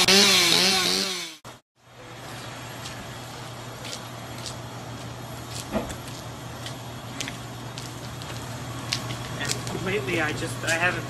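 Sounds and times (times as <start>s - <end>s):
outdoor noise: 0.0s - 11.0s
vehicle engine low hum: 1.8s - 11.0s.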